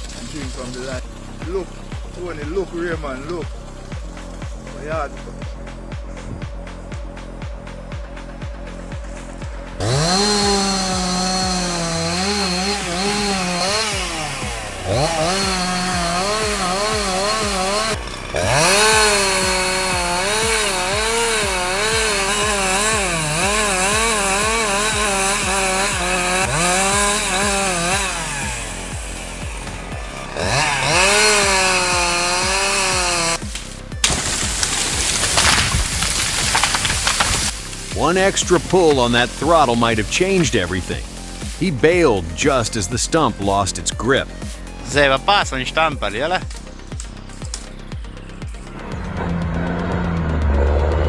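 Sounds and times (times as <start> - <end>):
chainsaw engine cutting: 0.0 - 51.0
music beat: 0.0 - 51.0.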